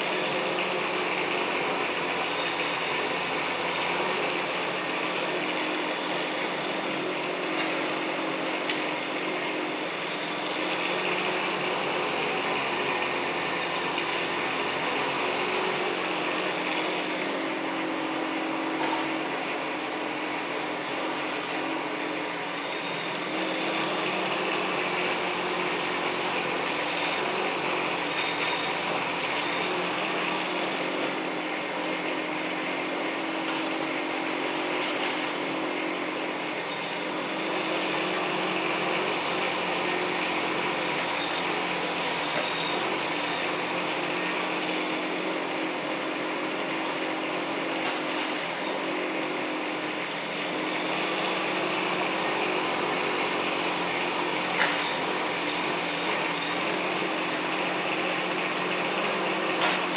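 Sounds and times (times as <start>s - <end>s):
diesel excavator engine: 0.0s - 59.9s.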